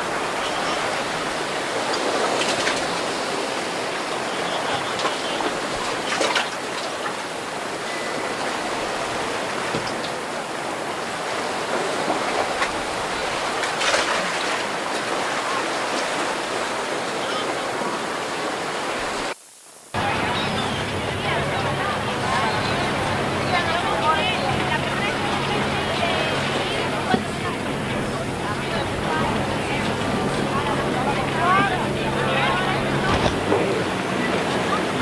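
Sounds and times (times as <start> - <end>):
choppy sea water churning: 0.0 - 19.4, 20.0 - 35.0
water splashes: 0.0 - 19.4, 20.0 - 35.0.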